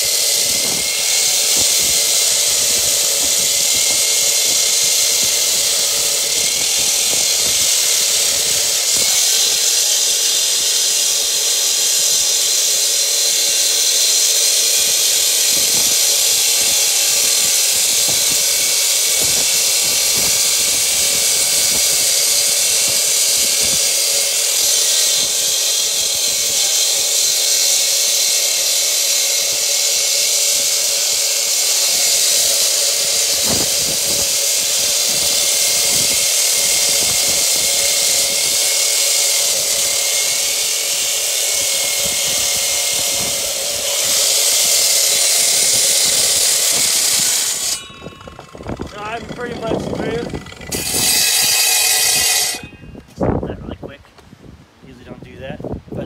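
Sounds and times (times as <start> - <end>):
concrete saw cutting concrete: 0.0 - 52.9.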